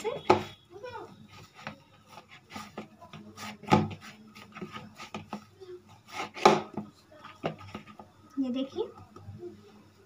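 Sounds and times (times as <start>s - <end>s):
hands kneading dough in bowl: 0.0s - 8.8s.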